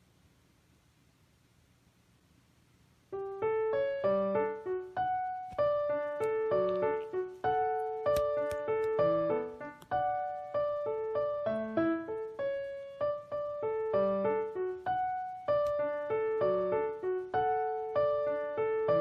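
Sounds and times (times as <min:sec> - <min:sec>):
slow piano melody: 0:03.1 - 0:19.0.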